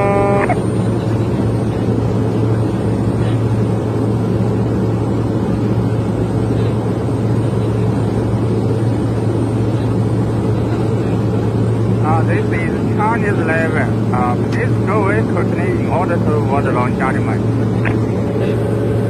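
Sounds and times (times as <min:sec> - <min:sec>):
turboprop engine hum: 0:00.0 - 0:19.0.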